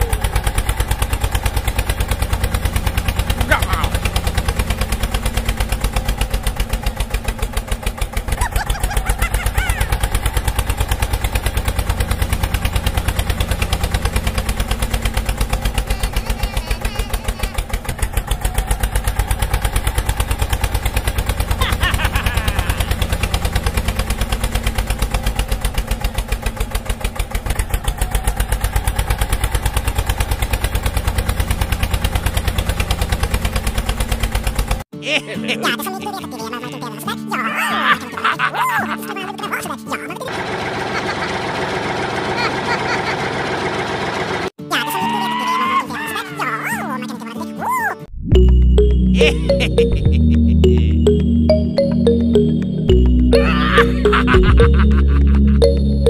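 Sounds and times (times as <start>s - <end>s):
diesel tractor engine chugging: 0.0s - 34.8s, 35.6s - 45.5s, 48.4s - 56.0s.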